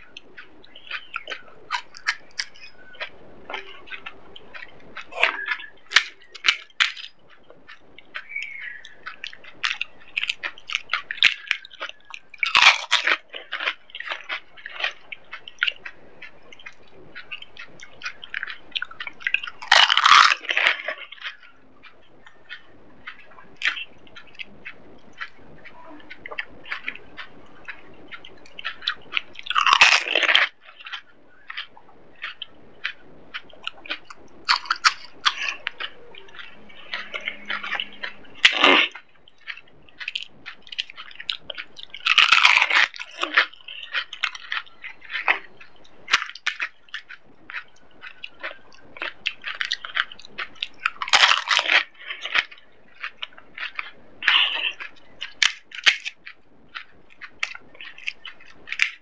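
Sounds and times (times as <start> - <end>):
wet chewing: 0.0 - 59.0
crisp shells crunching: 0.3 - 59.0.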